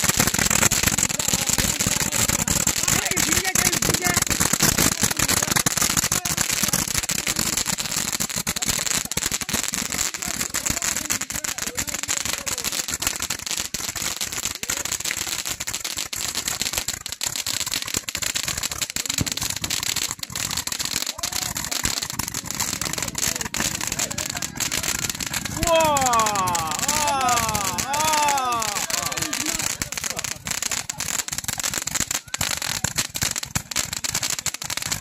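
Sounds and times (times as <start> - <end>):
fireworks crackling and popping: 0.0 - 35.0
fireworks hissing sparks: 0.0 - 35.0.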